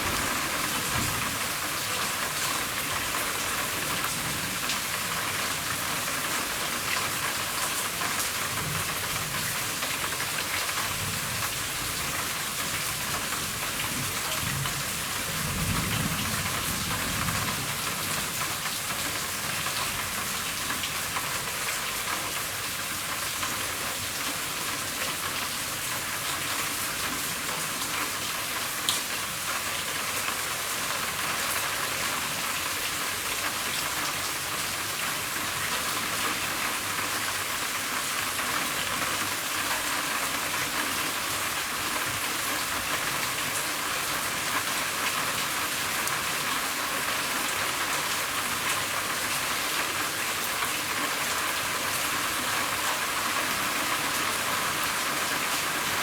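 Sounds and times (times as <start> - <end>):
heavy rain drumming on a roof: 0.0 - 56.0.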